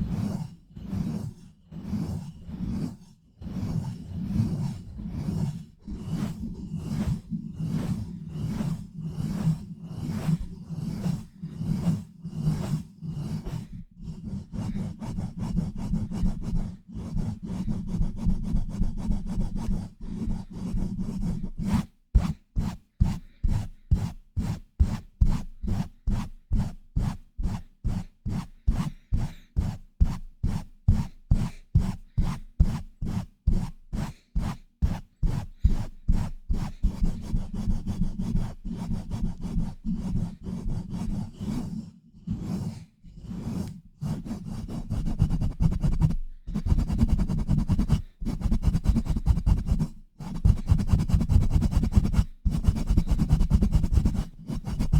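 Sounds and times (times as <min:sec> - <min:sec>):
hands rubbing on a microphone: 0:00.0 - 0:54.9.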